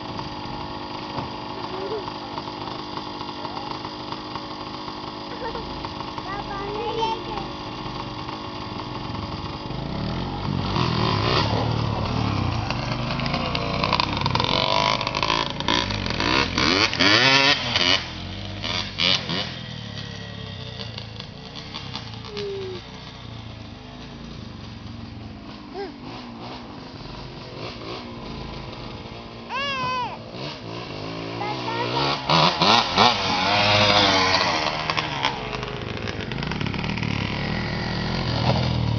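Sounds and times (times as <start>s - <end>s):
quad bike engines revving: 0.0s - 38.9s.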